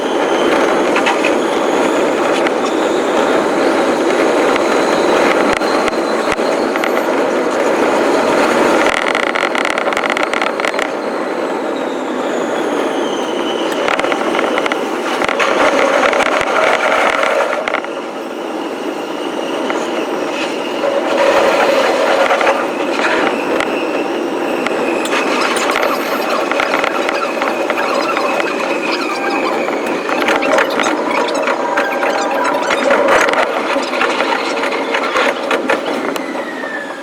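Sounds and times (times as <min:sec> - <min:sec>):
thin whining tones: 0:00.0 - 0:37.0
train wheels on track: 0:00.0 - 0:37.0.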